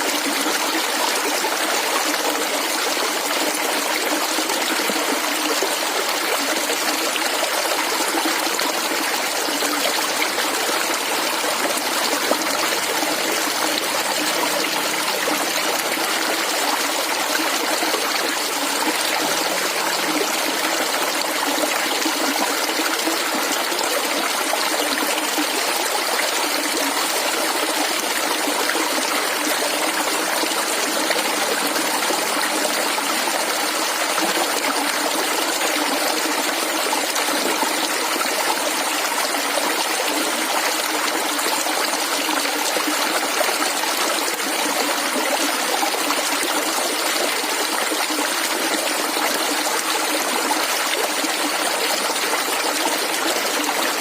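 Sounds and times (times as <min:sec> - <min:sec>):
water gurgling and trickling: 0:00.0 - 0:54.0.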